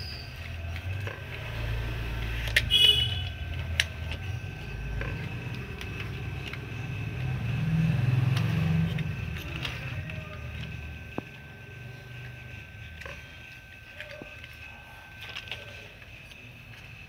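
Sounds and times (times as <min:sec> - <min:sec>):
plastic toys clacking: 0:00.0 - 0:17.0
toy vehicles rolling on concrete: 0:00.0 - 0:17.0.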